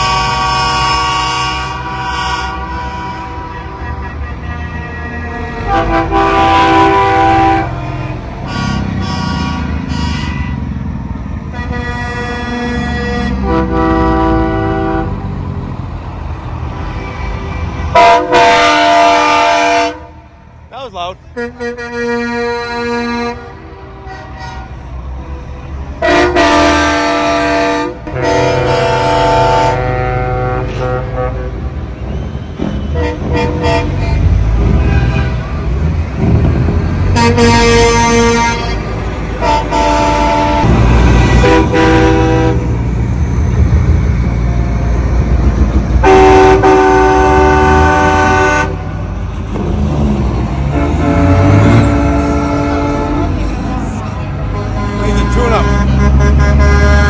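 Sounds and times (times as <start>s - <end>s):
truck air horns blasting: 0.0s - 10.8s, 11.4s - 15.3s, 16.8s - 20.4s, 21.3s - 43.0s, 46.0s - 49.3s, 50.4s - 57.0s
diesel trucks rumbling past: 0.0s - 57.0s.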